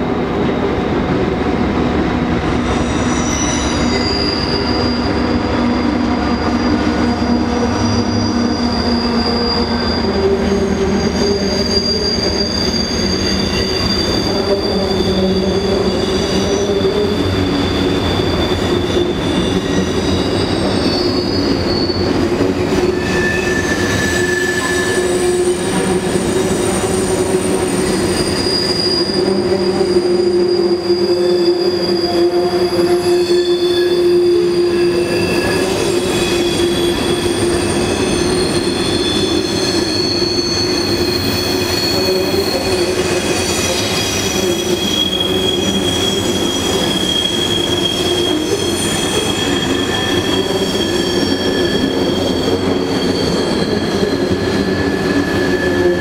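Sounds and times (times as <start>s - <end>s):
train wheel squeals: 2.0s - 56.0s.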